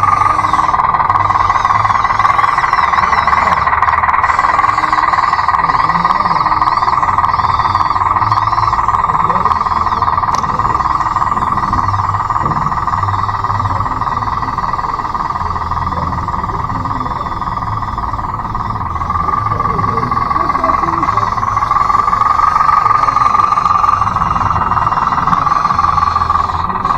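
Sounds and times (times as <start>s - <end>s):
electric motors whining: 0.0s - 26.9s
low rumbles: 0.0s - 26.9s.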